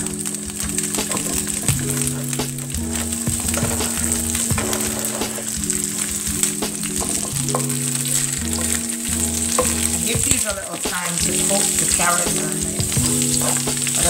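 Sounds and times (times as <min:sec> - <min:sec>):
background music with low notes: 0:00.0 - 0:14.0
vegetables clattering into pan: 0:00.0 - 0:14.0
vegetables sizzling in oil: 0:00.0 - 0:14.0.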